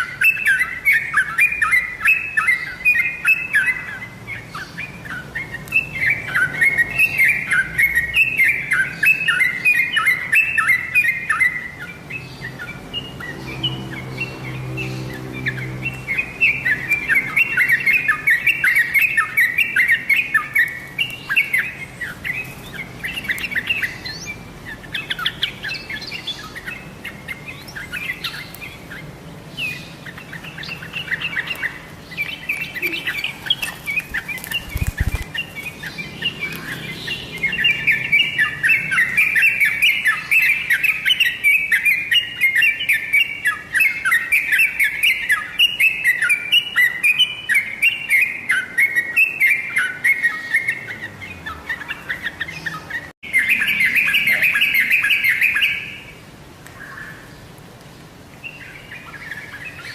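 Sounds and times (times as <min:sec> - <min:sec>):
bulbul chattering: 0:00.0 - 0:56.0.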